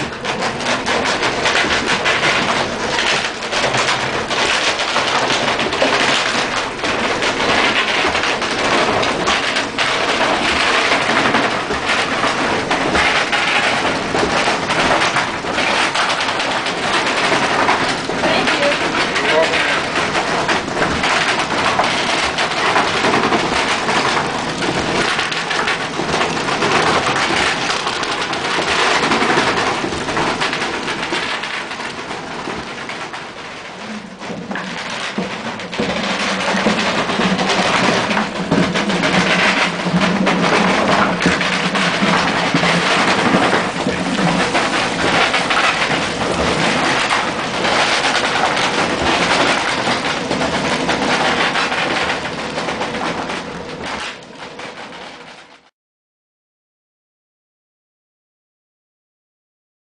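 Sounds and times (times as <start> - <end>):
feed chute rattling: 0.0 - 53.0
millstones grinding and gears clattering: 0.0 - 54.2.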